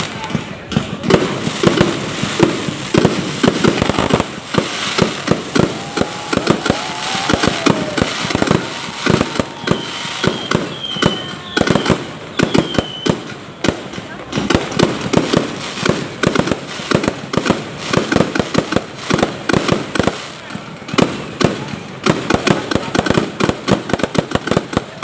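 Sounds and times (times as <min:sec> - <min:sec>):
fireworks whistling: 0:00.0 - 0:24.9
fireworks bangs: 0:00.0 - 0:25.0
fireworks crackling: 0:00.0 - 0:25.0.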